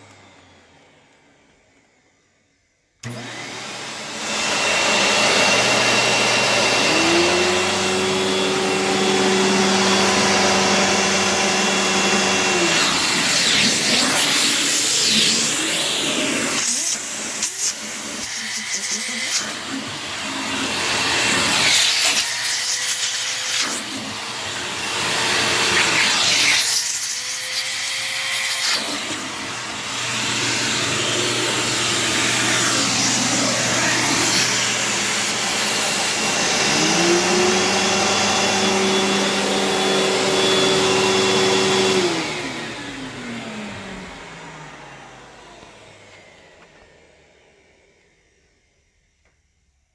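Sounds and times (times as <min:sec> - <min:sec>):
vacuum cleaner running: 0:00.0 - 0:49.1
vacuum motor winding down: 0:03.0 - 0:48.5.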